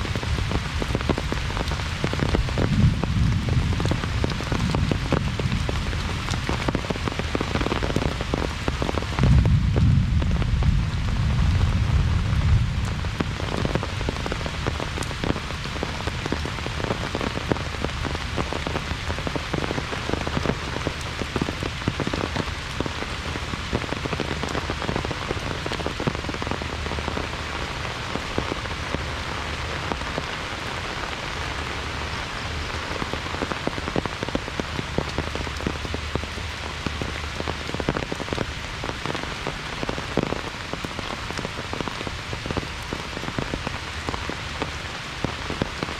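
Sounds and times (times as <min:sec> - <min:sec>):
heavy rain falling: 0:00.0 - 0:45.9
low rumble of wind: 0:00.0 - 0:45.9.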